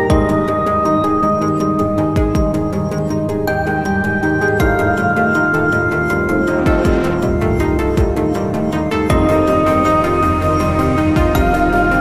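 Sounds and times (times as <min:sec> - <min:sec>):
background music with steady pulse: 0:00.0 - 0:12.0.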